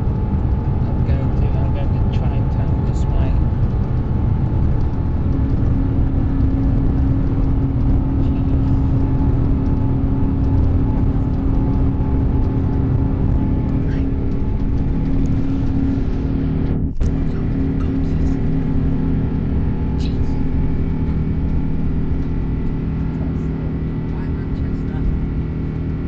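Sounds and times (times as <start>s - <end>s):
airliner engine drone: 0.0s - 26.0s
lower hum: 0.0s - 26.0s
steady hum: 0.0s - 26.0s.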